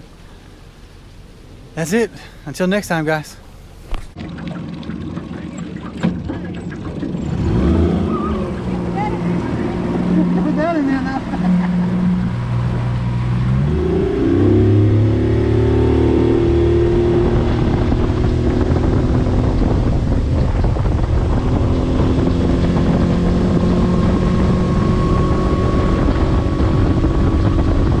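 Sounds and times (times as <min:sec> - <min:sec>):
outboard motor running: 0:03.8 - 0:28.0.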